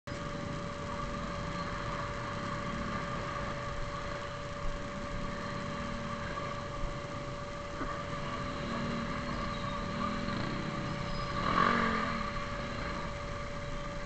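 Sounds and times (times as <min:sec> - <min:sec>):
surrounding vehicle engines: 0:00.0 - 0:14.0
motorcycle engine running: 0:00.1 - 0:14.0
steady thin whine: 0:00.1 - 0:14.0.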